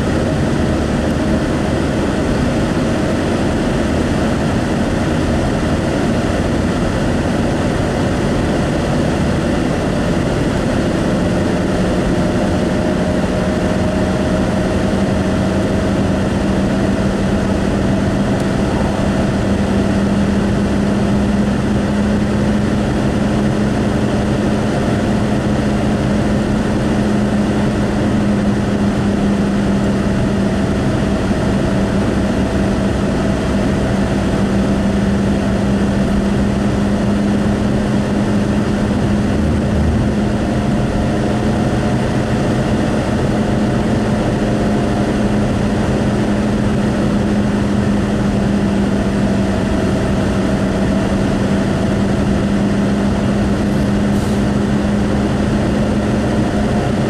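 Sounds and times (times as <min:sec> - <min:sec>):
steady low hum: 0:00.0 - 0:57.0
tyre and engine drone: 0:00.0 - 0:57.0.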